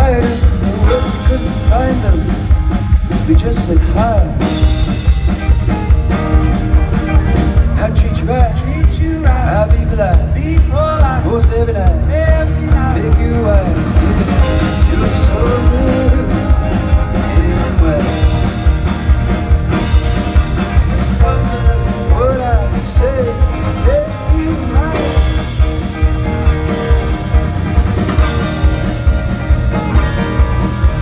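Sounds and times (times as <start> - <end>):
live folk-rock band playing: 0.0 - 31.0.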